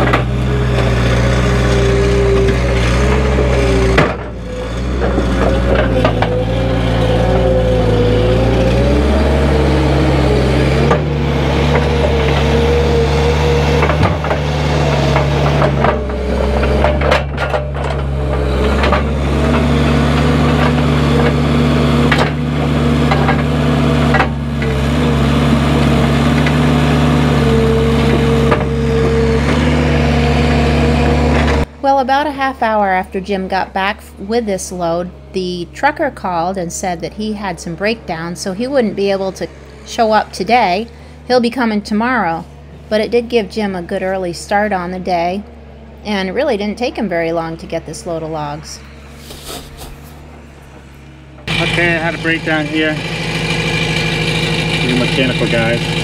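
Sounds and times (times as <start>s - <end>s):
diesel engine running hard: 0.0s - 56.0s.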